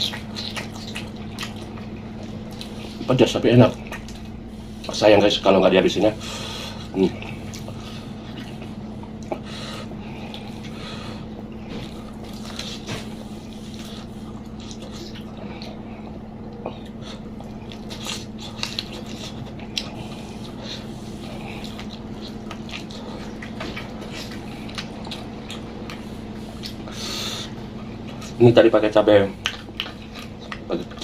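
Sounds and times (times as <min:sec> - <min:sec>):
steady low hum: 0:00.0 - 0:31.0
wet chewing mouth sounds: 0:00.0 - 0:31.0.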